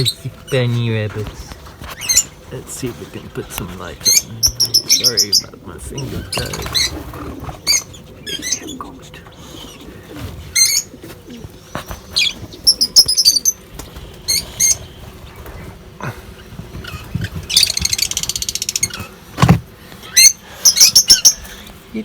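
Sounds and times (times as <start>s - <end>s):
birds chirping: 0.0s - 22.0s
fluttering wingbeats: 0.1s - 19.3s.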